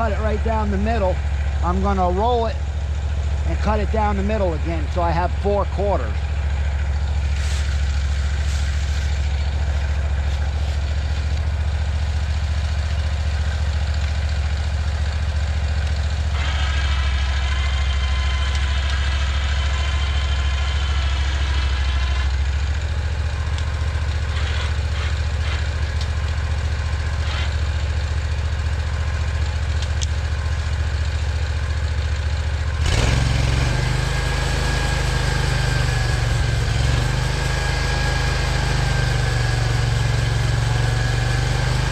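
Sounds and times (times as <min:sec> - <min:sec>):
gasoline engine idling and revving: 0:00.0 - 0:41.9.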